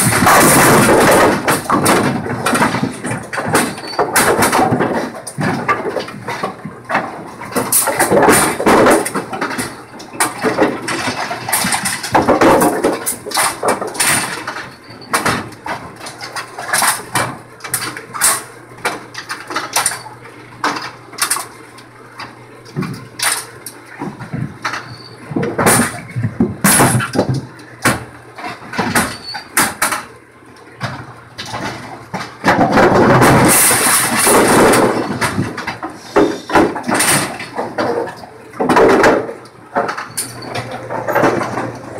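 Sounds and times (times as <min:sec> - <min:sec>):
bowling pinsetter clanking: 0:00.0 - 0:41.9
continuous mechanical clatter: 0:00.0 - 0:41.9.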